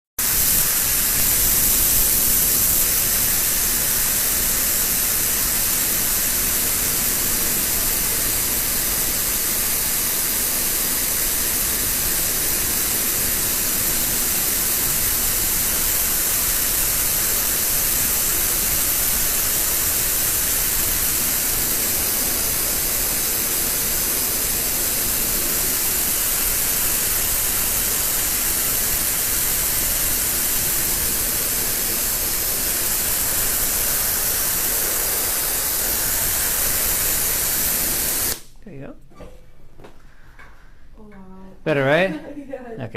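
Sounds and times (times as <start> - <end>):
cryotherapy device hissing: 0.2 - 38.6.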